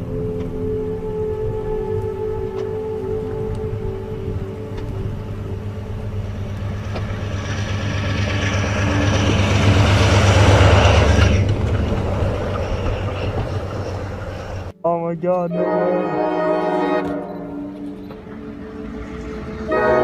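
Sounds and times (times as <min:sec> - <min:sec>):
train engine rumble: 0:00.0 - 0:20.0
train rushing noise: 0:00.0 - 0:20.0.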